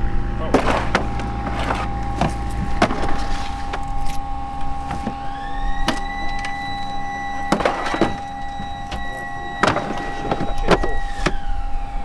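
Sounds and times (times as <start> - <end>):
electric whine rising in pitch: 0.0 - 12.0
steady mechanical hum: 0.0 - 12.0.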